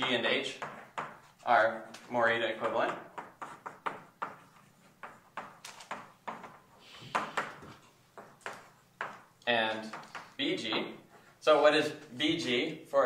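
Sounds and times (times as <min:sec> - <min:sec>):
chalk tapping and scratching: 0:00.0 - 0:11.4.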